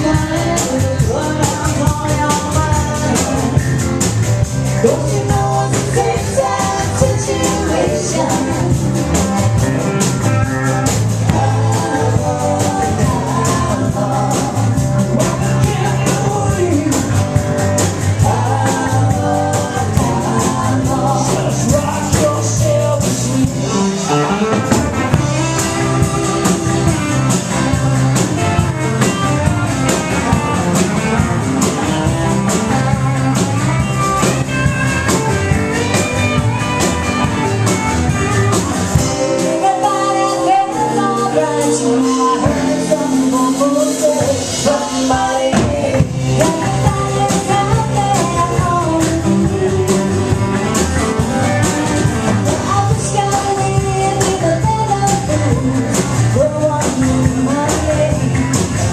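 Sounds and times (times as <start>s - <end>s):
people singing: 0.0s - 3.9s, 4.7s - 30.6s, 38.9s - 50.6s, 51.2s - 58.9s
electric guitar: 0.0s - 58.9s
steady drum beat: 0.0s - 58.9s.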